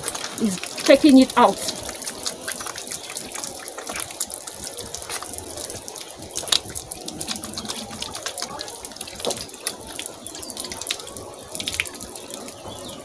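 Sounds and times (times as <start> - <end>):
hands rinsed under water: 0.0 - 13.0
tap water splashing on ground: 0.0 - 13.0.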